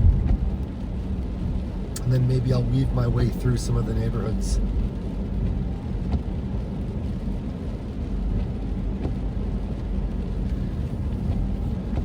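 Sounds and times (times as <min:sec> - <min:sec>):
car road and engine rumble: 0:00.0 - 0:12.0
rain on car: 0:00.0 - 0:12.0.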